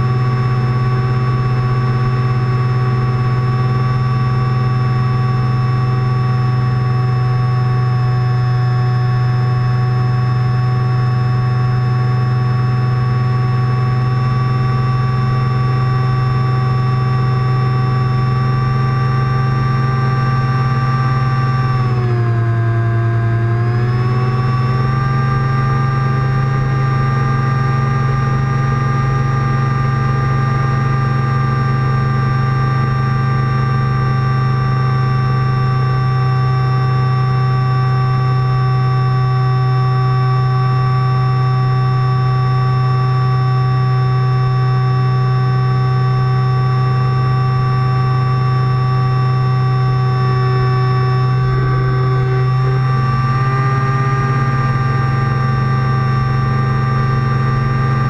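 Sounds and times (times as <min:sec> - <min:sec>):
propeller aircraft engine droning: 0:00.0 - 0:58.0.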